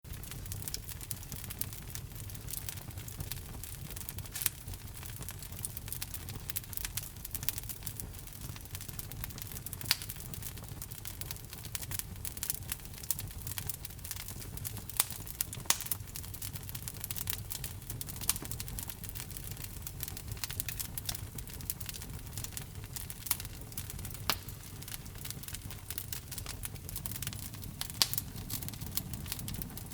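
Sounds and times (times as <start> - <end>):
low rumble of burning: 0.0 - 29.9
sharp fire pops: 0.1 - 29.9
wood fire crackling: 0.1 - 29.9.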